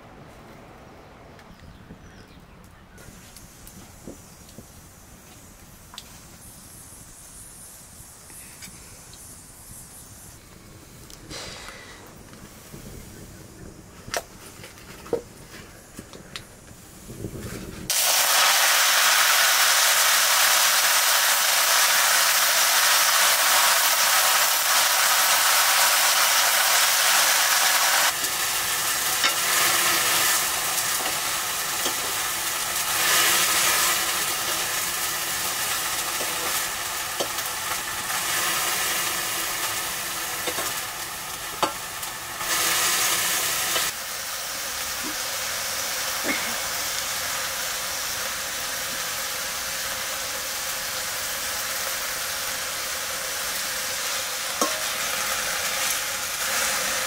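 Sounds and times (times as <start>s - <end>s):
food sizzling in a wok: 3.1s - 10.4s, 16.8s - 57.0s.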